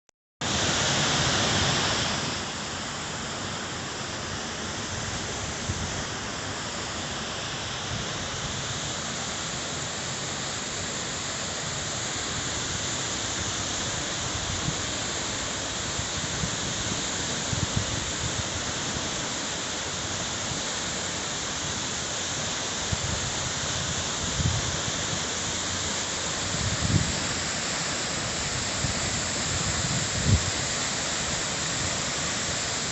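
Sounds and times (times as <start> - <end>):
waterfall roaring: 0.4 - 32.9.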